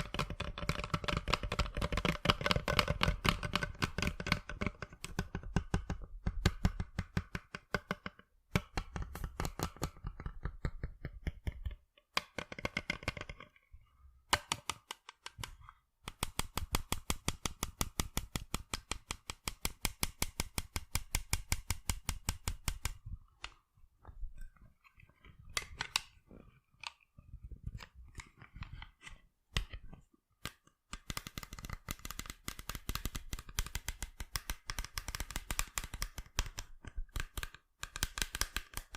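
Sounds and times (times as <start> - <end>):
fingers tapping on sunglasses: 0.0 - 13.5, 14.3 - 23.6, 27.7 - 38.9.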